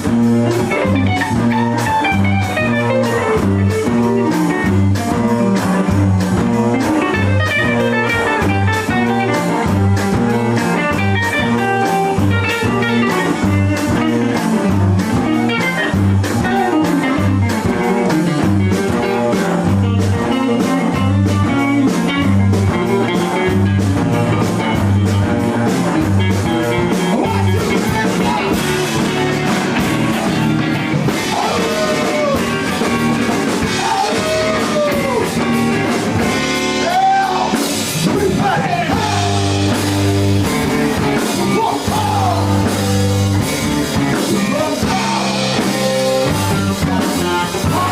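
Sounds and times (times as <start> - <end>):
blues-rock band playing: 0.0 - 47.9.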